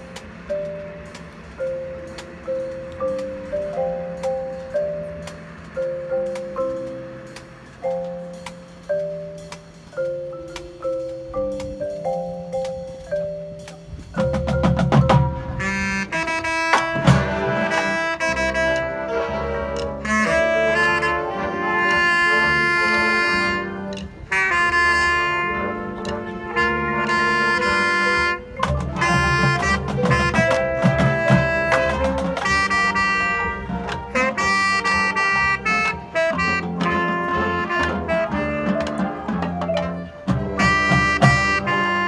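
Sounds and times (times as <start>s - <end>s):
marching band playing: 0.0s - 42.0s.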